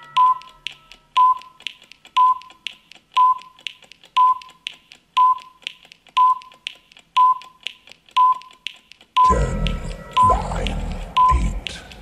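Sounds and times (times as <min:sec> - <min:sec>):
soft clock tick: 0:00.0 - 0:12.0.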